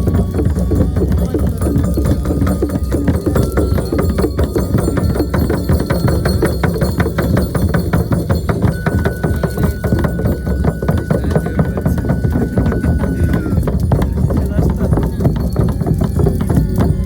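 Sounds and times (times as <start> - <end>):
frame drum beating rapidly: 0.0 - 17.0.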